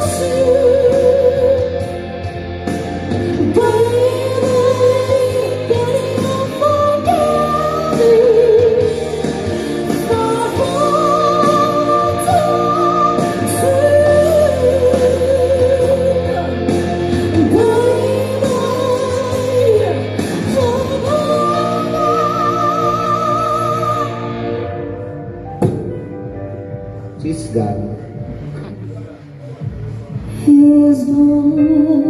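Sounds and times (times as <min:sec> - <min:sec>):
woman singing ballad: 0:00.0 - 0:25.1, 0:30.3 - 0:32.0
backing music: 0:00.0 - 0:32.0.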